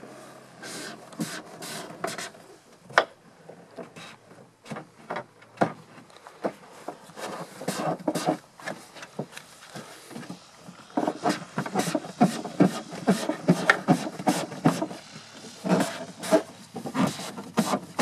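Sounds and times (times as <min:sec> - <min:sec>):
rubbing and scraping: 0:00.6 - 0:02.5, 0:03.8 - 0:18.0.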